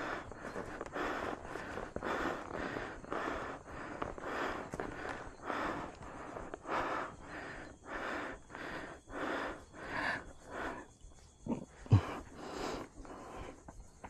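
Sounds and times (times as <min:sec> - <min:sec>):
person panting hard: 0:00.0 - 0:13.8.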